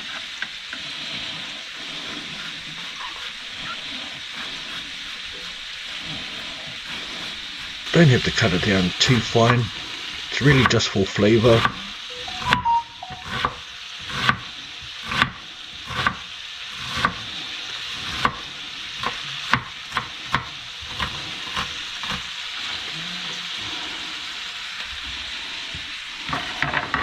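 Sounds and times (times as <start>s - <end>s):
bacon sizzling in a pan: 0.0s - 12.4s, 13.0s - 27.0s.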